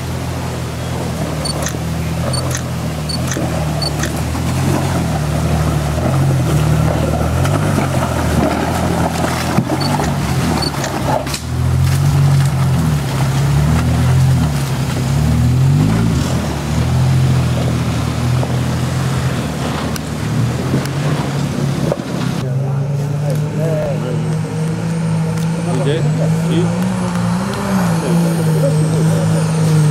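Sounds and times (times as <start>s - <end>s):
off-road engine at low revs: 0.0s - 29.9s.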